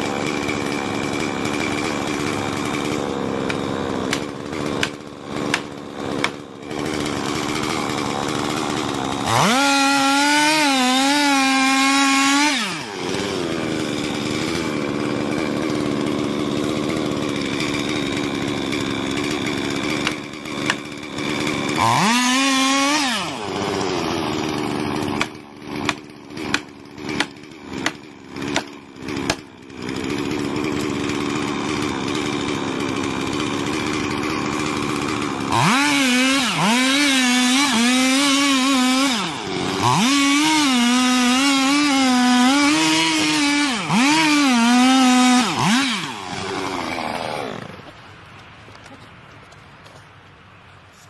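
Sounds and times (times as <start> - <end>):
chainsaw cutting into trunk: 0.0 - 49.0
chainsaw running: 0.0 - 49.0.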